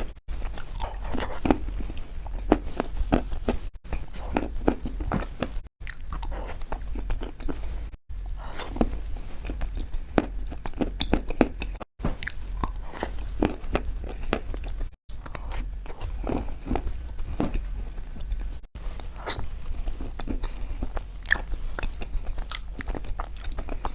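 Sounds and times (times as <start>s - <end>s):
chalk crunching and chewing: 0.4s - 23.9s.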